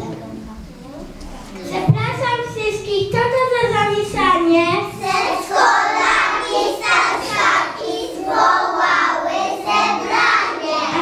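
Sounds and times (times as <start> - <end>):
young children singing: 1.6 - 11.0.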